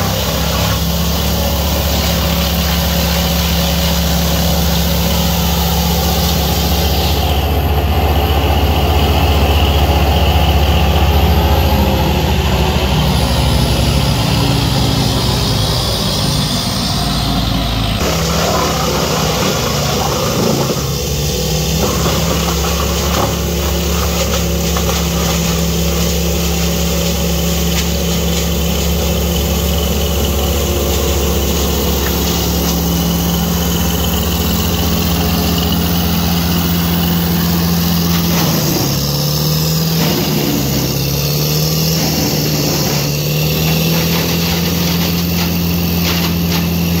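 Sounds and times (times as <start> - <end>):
brush chipper running: 0.0 - 47.0
wood chips blowing through chute: 0.0 - 47.0.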